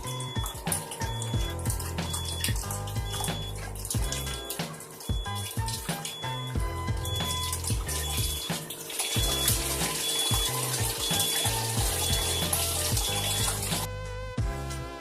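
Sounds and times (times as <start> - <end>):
water running from a tap: 0.0 - 13.9
music with a steady beat: 0.0 - 15.0.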